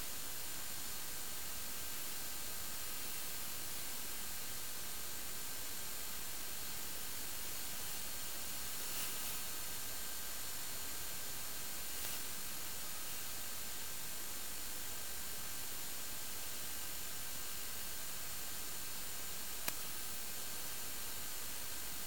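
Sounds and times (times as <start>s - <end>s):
radio static hiss: 1.5s - 22.0s.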